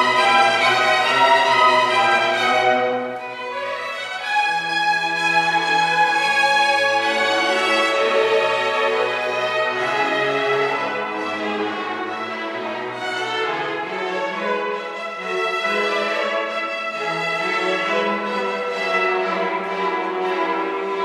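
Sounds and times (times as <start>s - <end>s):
string section playing: 0.0s - 21.0s.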